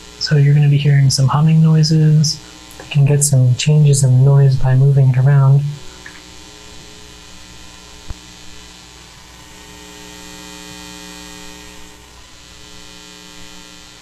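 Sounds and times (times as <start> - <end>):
electrical hiss: 0.0 - 14.0
electrical mains hum: 0.0 - 14.0.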